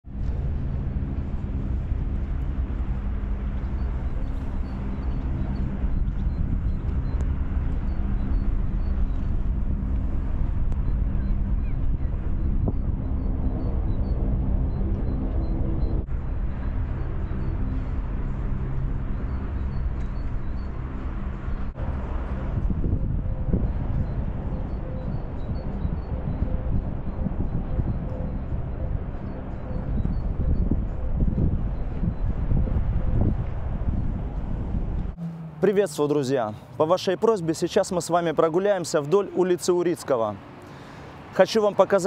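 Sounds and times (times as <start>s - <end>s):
motor rumble and hum: 0.0s - 35.7s.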